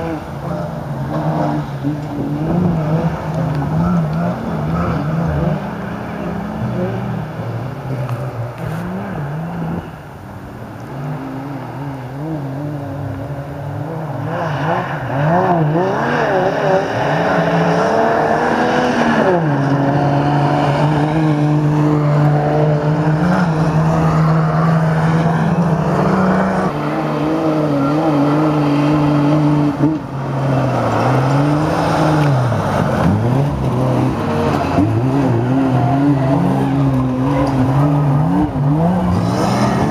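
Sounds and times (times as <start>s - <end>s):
truck engines revving: 0.0s - 39.9s.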